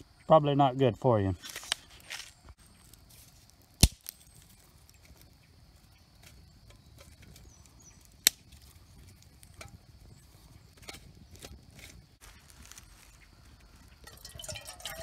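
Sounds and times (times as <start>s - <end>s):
twigs crackling in fire: 1.1s - 15.0s.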